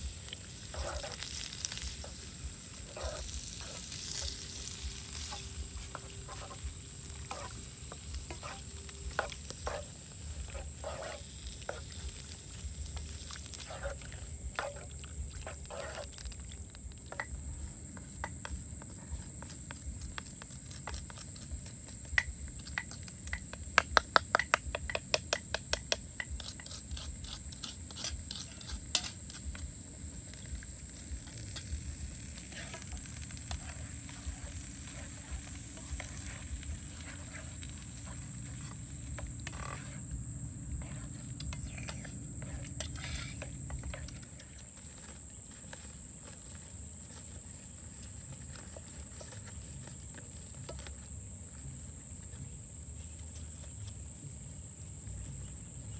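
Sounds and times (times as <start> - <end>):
pork sizzling: 0.0 - 51.6.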